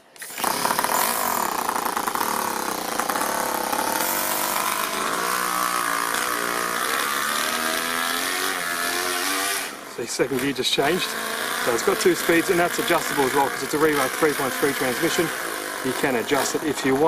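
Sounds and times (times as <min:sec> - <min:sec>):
model engine running: 0:00.0 - 0:17.0.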